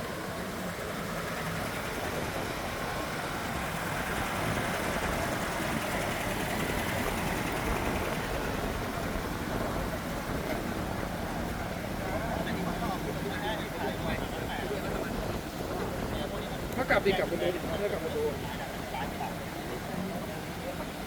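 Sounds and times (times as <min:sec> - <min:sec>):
vehicle engine noise: 0:00.0 - 0:21.0.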